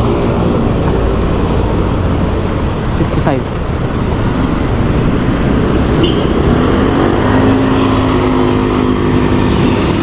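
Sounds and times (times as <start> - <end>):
road traffic noise: 0.0 - 10.0
vehicle engine hum: 0.0 - 10.0.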